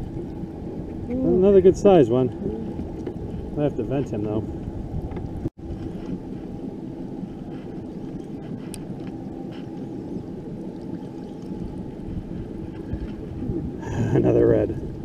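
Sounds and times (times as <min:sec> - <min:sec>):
outboard motor idling: 0:00.0 - 0:13.2
wind on microphone: 0:00.0 - 0:15.0.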